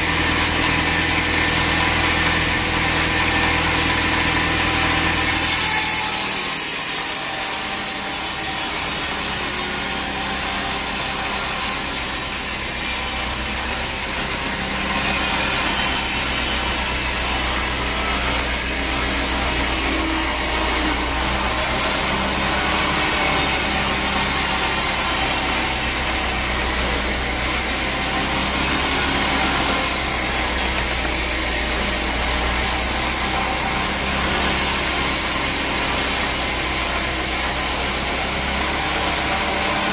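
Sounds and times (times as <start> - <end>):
saw cutting through log: 0.0 - 39.9
machine motor running: 7.9 - 39.9.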